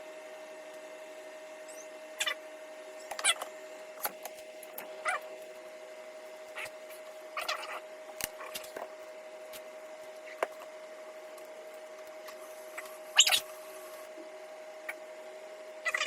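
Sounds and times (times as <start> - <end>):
three d printer humming: 0.0 - 16.0.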